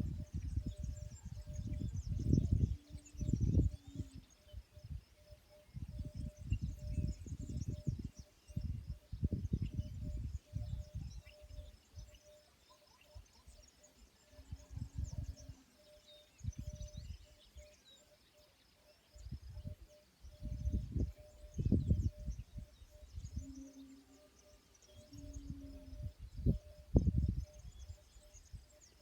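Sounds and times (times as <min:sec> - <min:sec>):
faint pulsing tone: 0:00.0 - 0:29.0
small birds chirping: 0:00.0 - 0:29.0.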